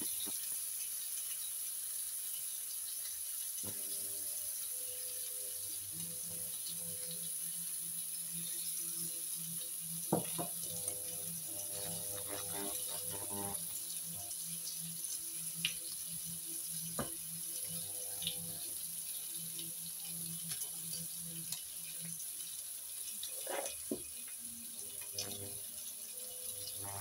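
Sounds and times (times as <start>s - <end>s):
bacon sizzling in a frying pan: 0.0s - 27.0s.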